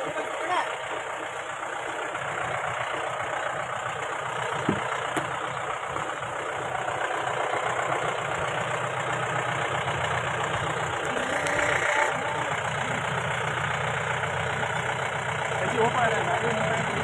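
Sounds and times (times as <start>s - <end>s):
car engine running: 0.0s - 17.0s
rough driving noise: 0.0s - 17.0s.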